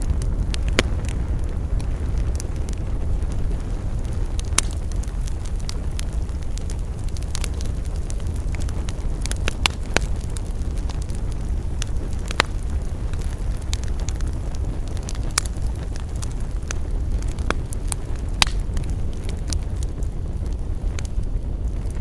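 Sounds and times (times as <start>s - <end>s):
low fire rumble: 0.0s - 22.0s
wood fire crackling: 0.0s - 22.0s.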